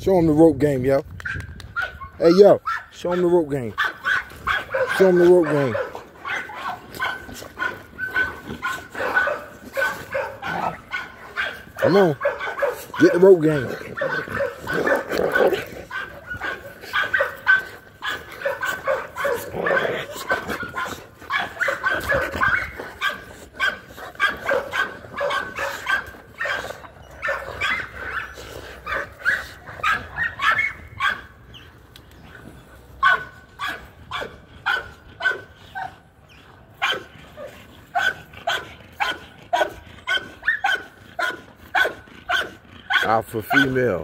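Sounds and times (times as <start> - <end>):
dogs barking and yipping: 1.1 - 44.0.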